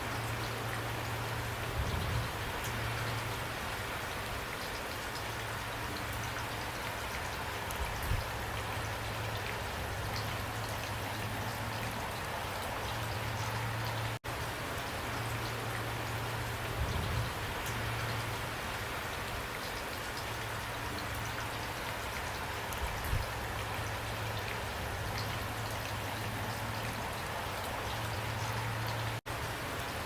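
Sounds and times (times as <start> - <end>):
rain falling: 0.0 - 30.0
raindrops ticking: 2.5 - 16.8, 17.5 - 30.0.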